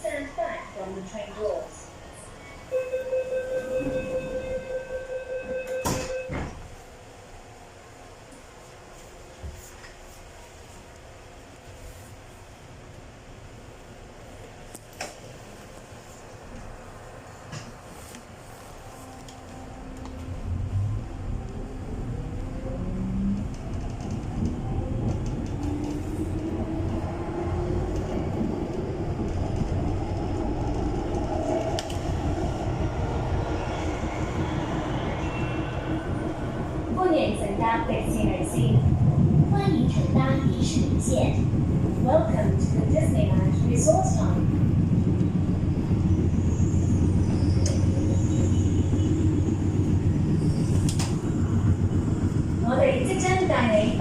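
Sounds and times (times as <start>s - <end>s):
train running and wheel noise: 0.0s - 54.0s.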